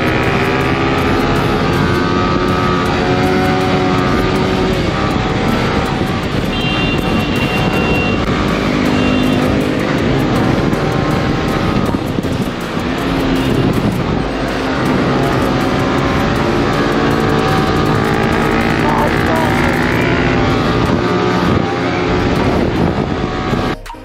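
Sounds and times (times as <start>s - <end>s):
heavy wind rush: 0.0s - 23.8s
motorcycle engine cruising: 0.0s - 23.9s
background music: 0.0s - 24.0s.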